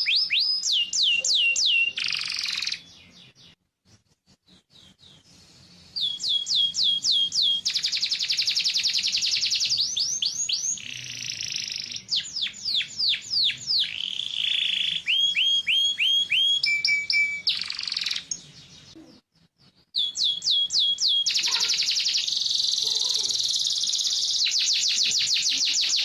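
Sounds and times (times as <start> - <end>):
canary singing: 0.0 - 3.6, 4.5 - 26.0.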